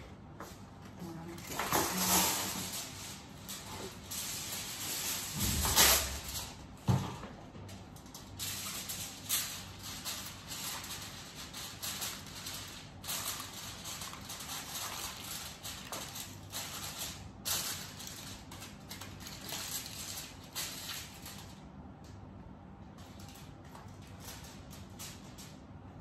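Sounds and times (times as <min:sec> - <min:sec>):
rustling and shuffling: 0:00.2 - 0:21.6.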